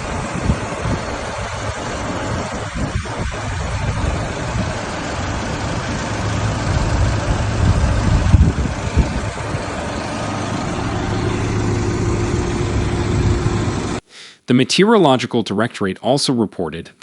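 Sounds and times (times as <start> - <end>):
loud rushing noise: 0.0 - 14.1
vehicle engine humming: 0.0 - 14.1.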